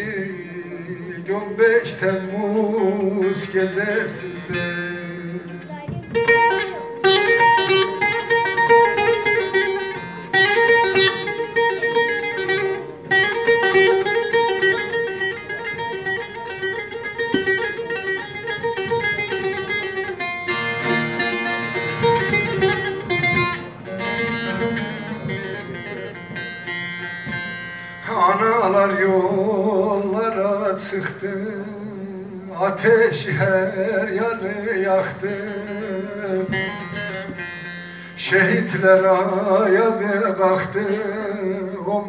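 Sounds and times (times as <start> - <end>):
plucked lutes playing melody: 0.0 - 42.0.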